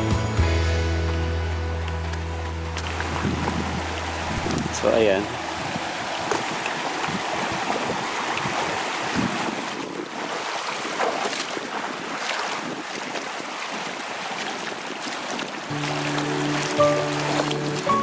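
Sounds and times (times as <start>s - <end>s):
river flowing over rocks: 0.4s - 18.0s.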